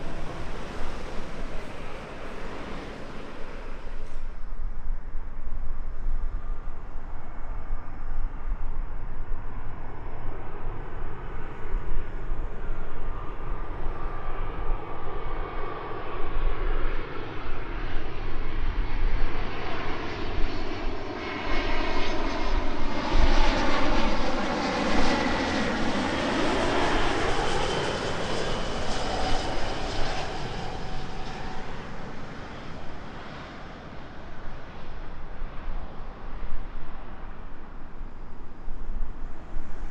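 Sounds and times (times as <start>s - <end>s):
jet airliner passing overhead: 0.0s - 39.9s.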